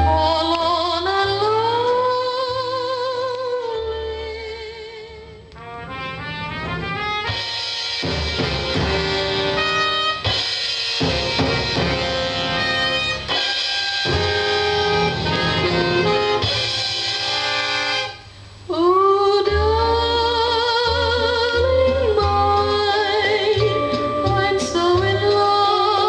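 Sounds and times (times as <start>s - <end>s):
band music from vinyl record: 0.0s - 26.0s.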